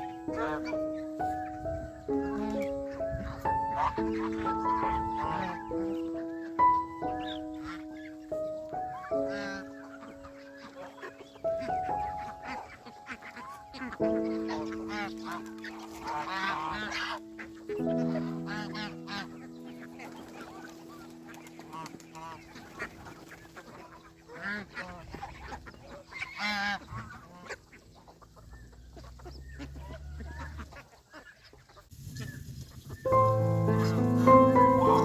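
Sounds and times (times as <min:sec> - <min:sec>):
geese honking: 0:00.0 - 0:31.8, 0:33.1 - 0:35.0.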